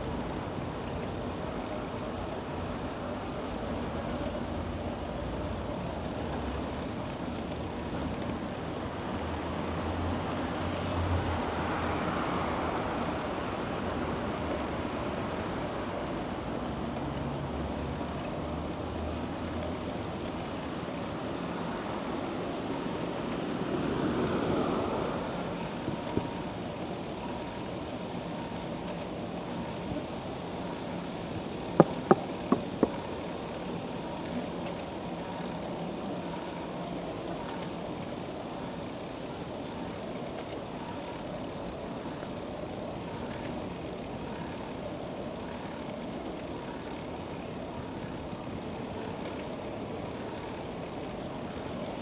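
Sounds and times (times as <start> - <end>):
bicycle riding noise: 0.0 - 52.0
traffic drone: 0.0 - 52.0.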